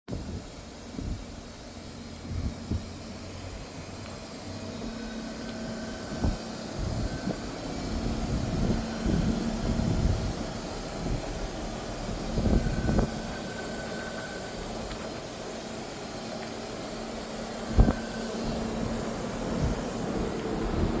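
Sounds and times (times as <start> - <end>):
faint high whine: 0.1 - 21.0
heat pump fan running: 0.1 - 21.0
low rumbles: 0.1 - 21.0.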